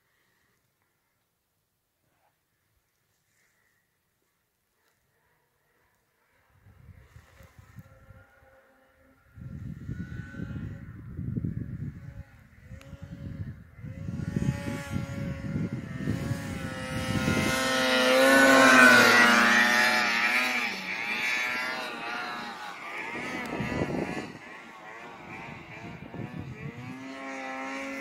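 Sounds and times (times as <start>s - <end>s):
snowmobile engine passing by: 5.1s - 28.0s.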